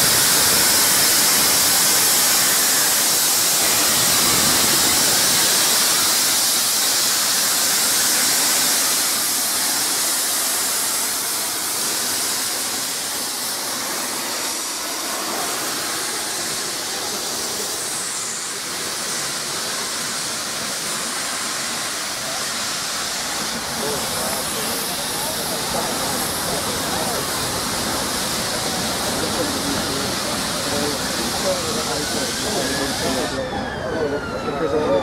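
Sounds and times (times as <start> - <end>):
steam locomotive hissing steam: 0.0 - 35.0.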